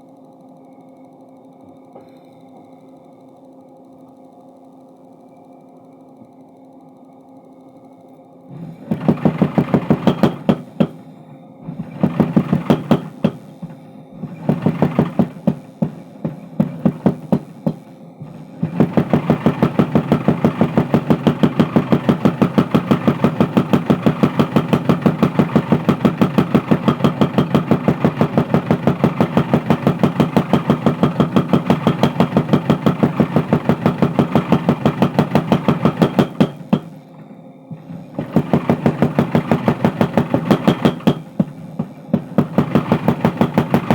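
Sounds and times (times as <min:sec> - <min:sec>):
low machine hum: 0:00.0 - 0:43.9
power hammer pounding steel: 0:08.5 - 0:43.9.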